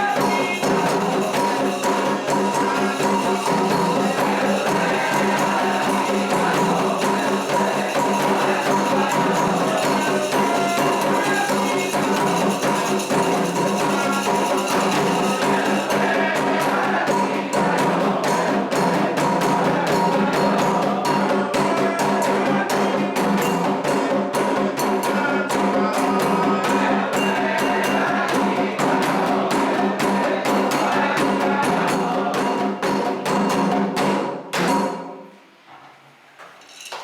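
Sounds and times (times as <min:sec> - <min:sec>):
wood-block-like percussion: 0:00.0 - 0:35.4
drums: 0:00.0 - 0:37.0.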